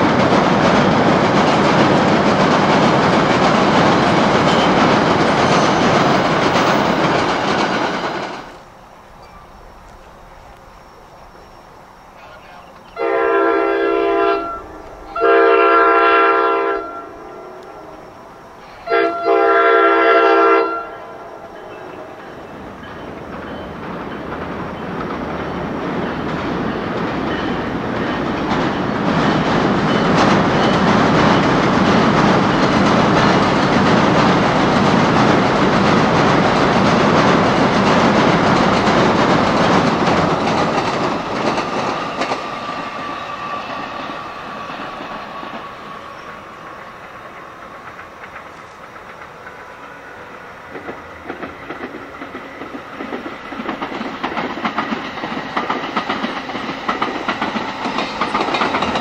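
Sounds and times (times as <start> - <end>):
train wheels clacking on rails: 0.0 - 10.6, 17.6 - 59.0.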